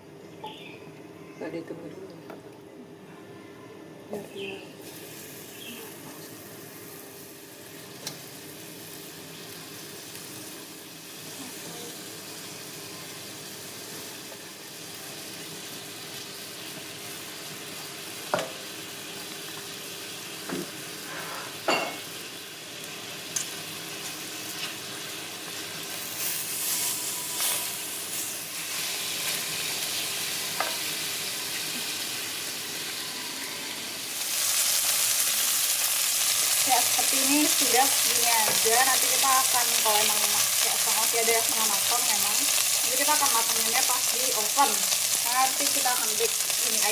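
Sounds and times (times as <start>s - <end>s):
chicken sizzling in a pan: 4.4s - 46.9s.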